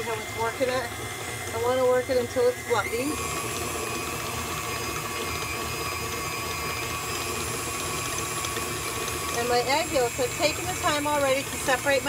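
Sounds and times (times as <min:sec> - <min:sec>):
stand mixer motor whine: 0:00.0 - 0:12.0.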